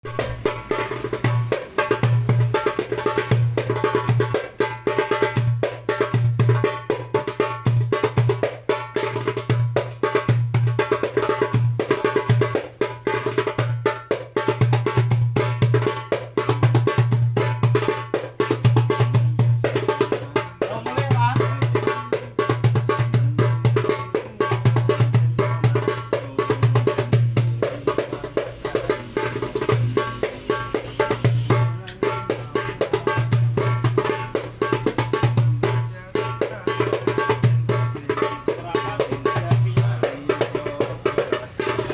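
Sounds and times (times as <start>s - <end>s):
goblet drum played fast: 0.0s - 41.9s.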